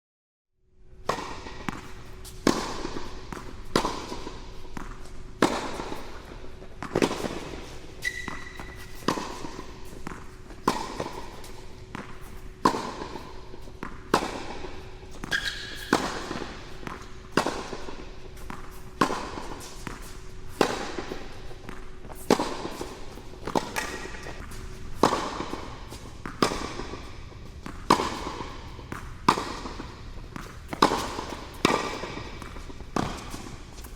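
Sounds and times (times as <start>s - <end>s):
ball bouncing on court: 1.0s - 33.9s
tennis ball hit by racket: 1.0s - 33.9s.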